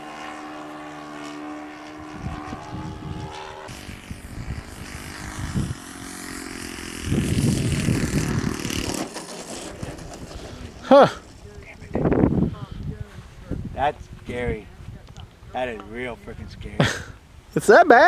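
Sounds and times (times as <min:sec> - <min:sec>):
wind buffeting microphone: 0:00.0 - 0:17.7
model airplane motor droning: 0:00.0 - 0:18.0.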